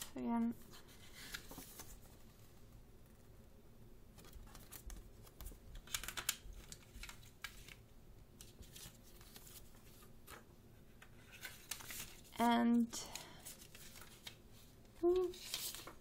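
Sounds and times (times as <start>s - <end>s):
paper rustling: 0.0s - 2.6s, 4.2s - 7.8s, 8.4s - 12.4s, 13.1s - 16.0s.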